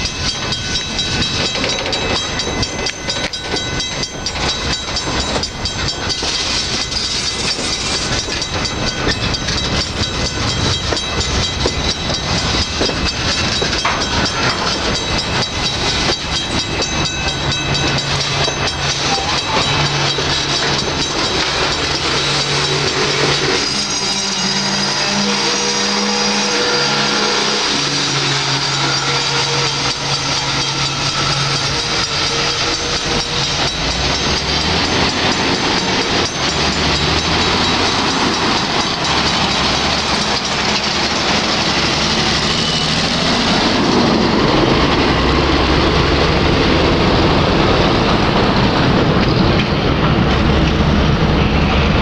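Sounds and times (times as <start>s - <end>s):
steady high-pitched tones: 0.0s - 49.6s.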